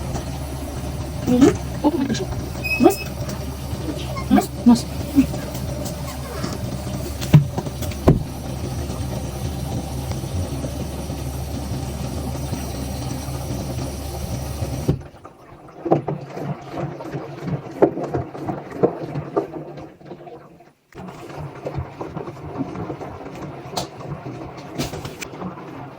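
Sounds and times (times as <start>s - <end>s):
washing machine motor hum: 0.0s - 20.4s, 21.0s - 25.9s.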